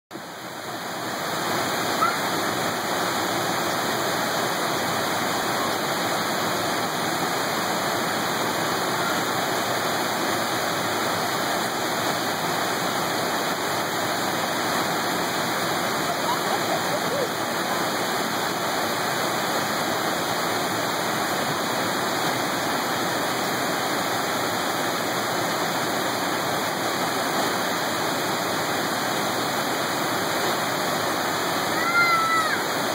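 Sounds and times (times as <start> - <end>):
water rushing over a dam spillway: 0.2 - 32.9.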